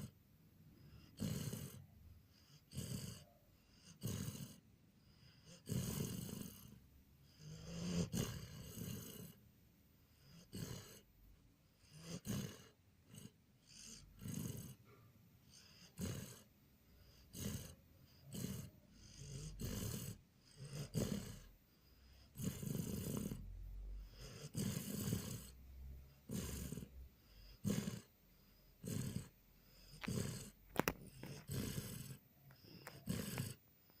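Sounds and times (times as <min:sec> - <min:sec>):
dog snoring: 0:00.0 - 0:09.4, 0:10.0 - 0:34.0.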